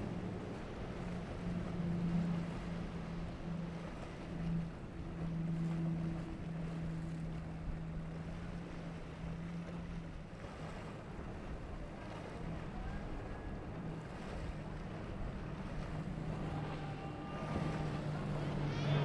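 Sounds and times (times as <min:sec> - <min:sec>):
outboard engines droning: 0:00.0 - 0:19.0
water and wind rushing: 0:00.0 - 0:19.0.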